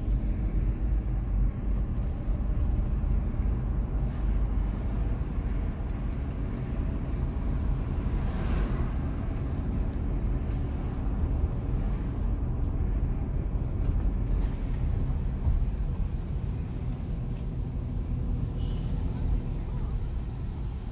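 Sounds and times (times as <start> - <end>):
car interior rumble: 0.0 - 20.9.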